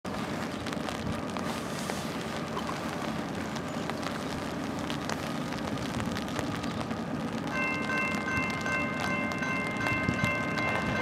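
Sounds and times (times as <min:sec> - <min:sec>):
distant freight train rumble: 0:00.1 - 0:11.0
light rain: 0:00.1 - 0:11.0
raindrops ticking: 0:00.1 - 0:11.0.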